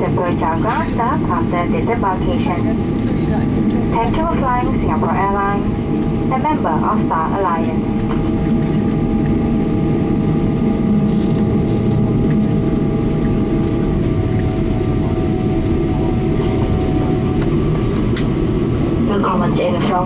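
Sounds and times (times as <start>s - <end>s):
loud cabin rumble: 0.0s - 20.0s
steady whining tones: 0.0s - 20.0s.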